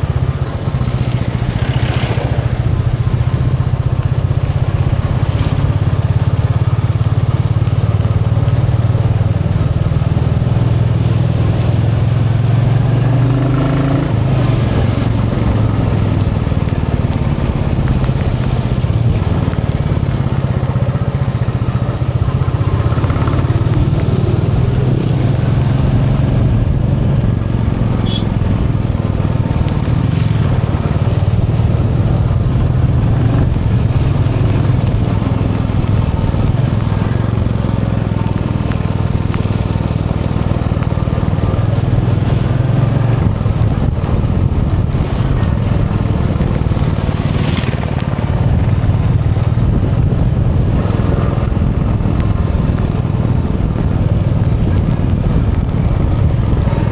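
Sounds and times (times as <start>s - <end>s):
motorcycle engine running: 0.0s - 56.9s
wind noise on microphone: 8.4s - 56.9s.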